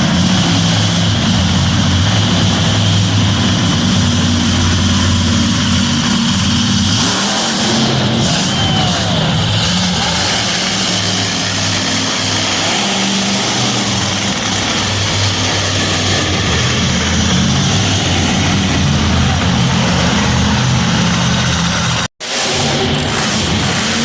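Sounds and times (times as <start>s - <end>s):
truck engine roaring: 0.0s - 24.0s.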